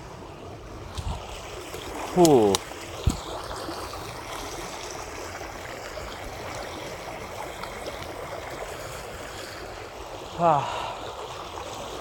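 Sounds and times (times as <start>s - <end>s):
river rushing over rocks: 0.2s - 12.0s.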